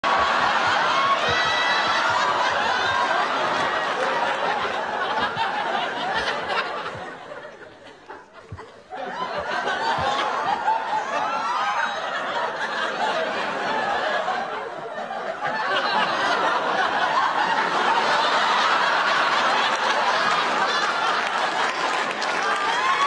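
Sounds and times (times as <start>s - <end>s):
audience laughing: 0.0s - 23.0s.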